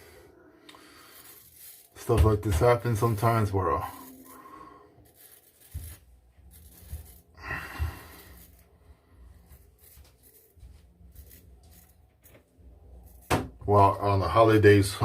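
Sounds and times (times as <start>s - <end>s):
razor scraping stubble: 0.7s - 14.0s.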